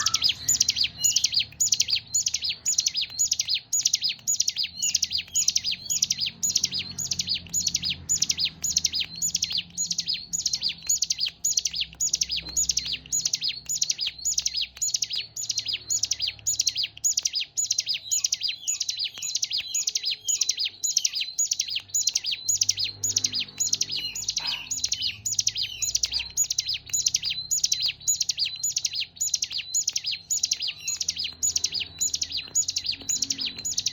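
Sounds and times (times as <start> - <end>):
bird singing rapid high chirps: 0.0 - 33.9.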